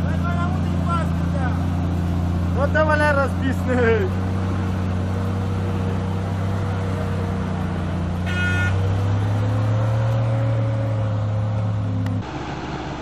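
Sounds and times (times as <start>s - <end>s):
tractor engine running: 0.0s - 13.0s
truck engine running under load: 0.0s - 13.0s.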